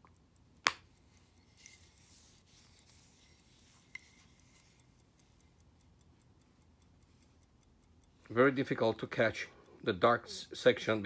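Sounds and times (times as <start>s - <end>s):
pocket watch ticking: 0.0s - 11.0s.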